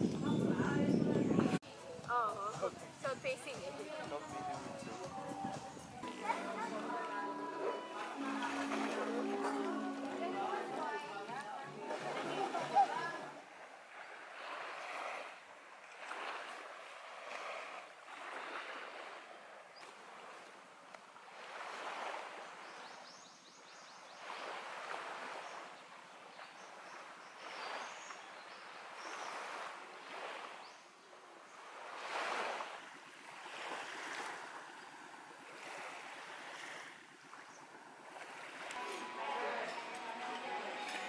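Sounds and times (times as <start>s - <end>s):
small waves washing onto beach: 0.0s - 41.0s.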